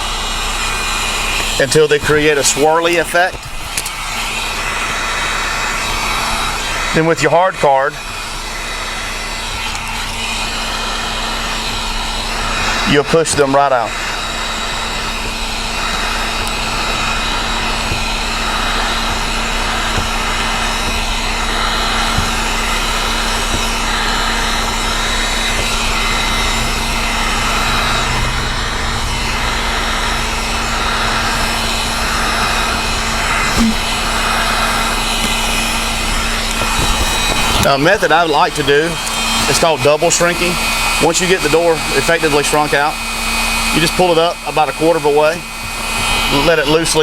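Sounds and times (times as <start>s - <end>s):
heat gun fan humming: 0.0s - 47.0s.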